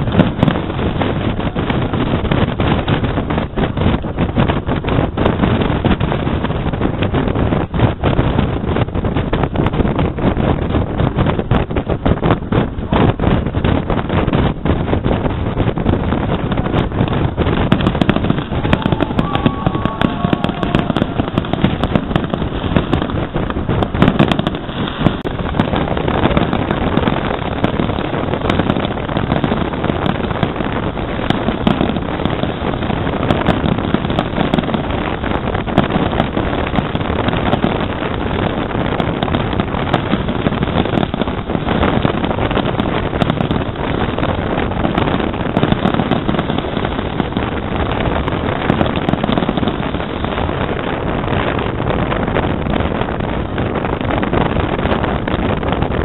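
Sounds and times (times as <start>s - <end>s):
fireworks popping and crackling: 0.0s - 56.0s
wind buffeting microphone: 0.0s - 56.0s.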